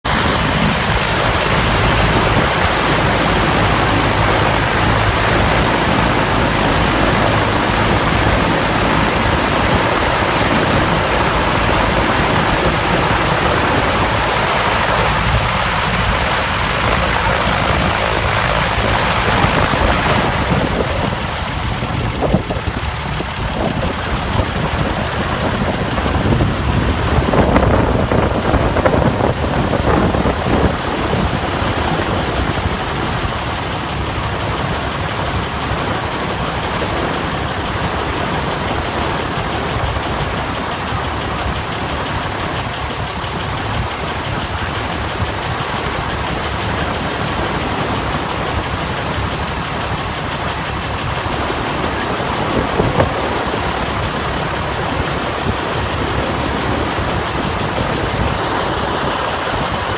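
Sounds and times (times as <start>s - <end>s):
engine idling: 0.1s - 59.9s.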